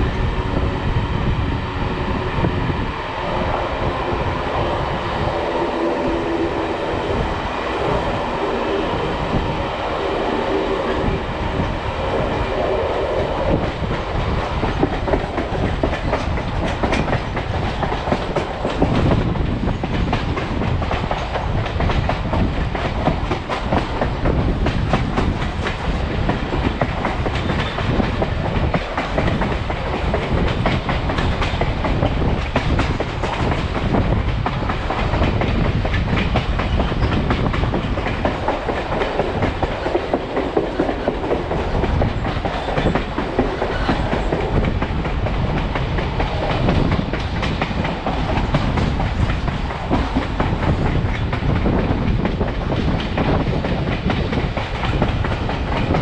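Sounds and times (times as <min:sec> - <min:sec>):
rail clicks and clacks: 0:00.0 - 0:56.0
train wheels rumbling on rail: 0:00.0 - 0:56.0.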